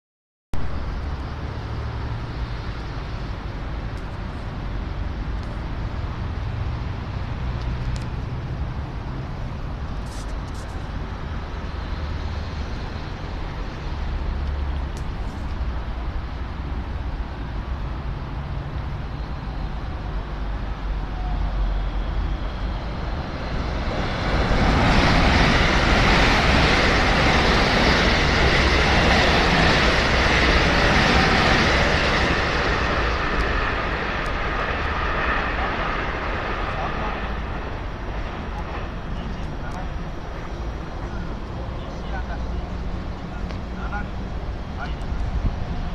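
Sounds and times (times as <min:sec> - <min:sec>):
train wheel and rail noise: 0:00.6 - 0:45.9.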